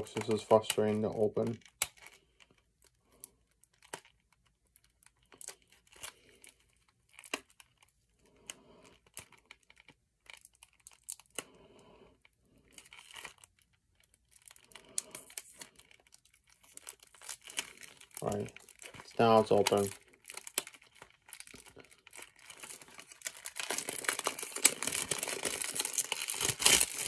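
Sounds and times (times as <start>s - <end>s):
packaging crinkling and tearing: 0.0s - 27.0s.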